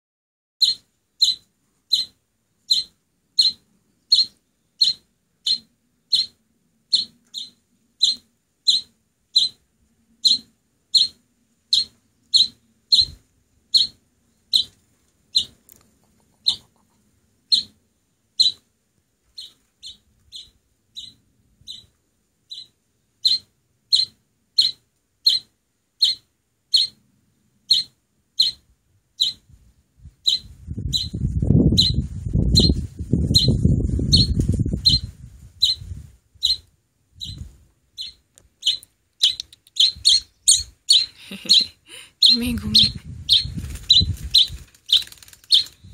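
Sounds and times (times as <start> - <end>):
nestling chirping calls: 0.6 - 9.6, 10.2 - 17.8, 18.4 - 18.6, 19.3 - 21.9, 22.5 - 27.0, 27.6 - 28.6, 29.2 - 29.5, 30.2 - 45.9.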